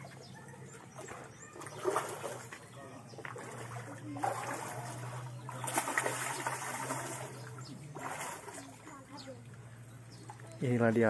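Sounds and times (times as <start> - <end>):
fish splashing in water: 0.0 - 9.1.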